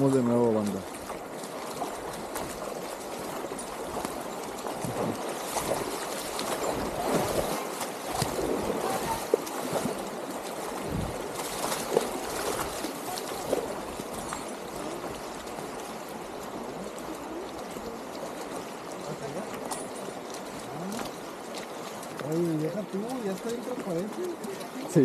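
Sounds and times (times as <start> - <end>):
stream water running: 0.0 - 25.0
water gurgles and splashes: 0.0 - 25.0.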